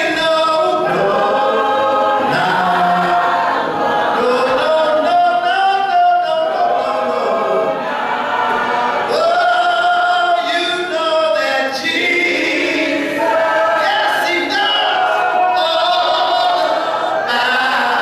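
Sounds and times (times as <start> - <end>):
choir singing a cappella: 0.0 - 18.0.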